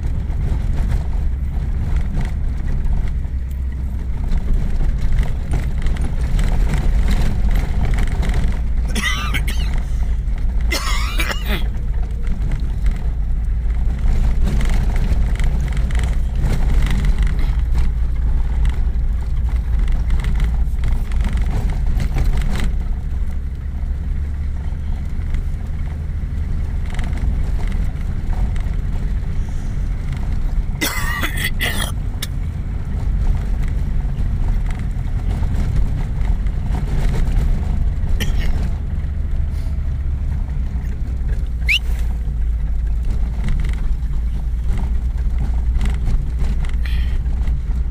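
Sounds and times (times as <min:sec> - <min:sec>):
car rumbling on dirt road: 0:00.0 - 0:47.9.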